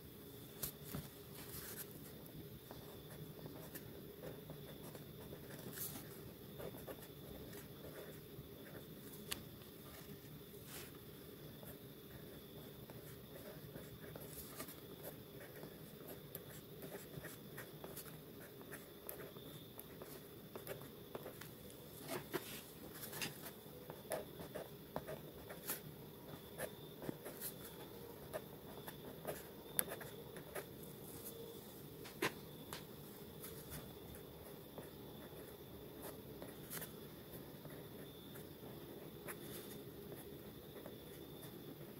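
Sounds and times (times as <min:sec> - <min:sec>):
faint steady hiss: 0:00.0 - 0:41.9
pen scratching on paper: 0:01.4 - 0:09.0, 0:09.8 - 0:31.4, 0:33.4 - 0:41.9.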